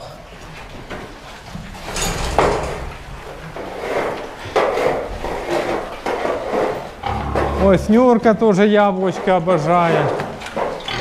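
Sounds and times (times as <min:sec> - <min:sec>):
hand scrapers scraping floor: 0:01.8 - 0:11.0.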